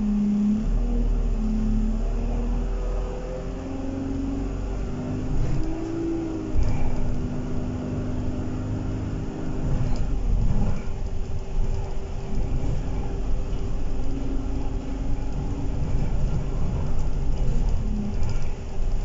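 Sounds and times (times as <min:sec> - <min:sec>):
bus engine and road rumble: 0:00.0 - 0:19.0
humming drivetrain tone: 0:00.0 - 0:19.0.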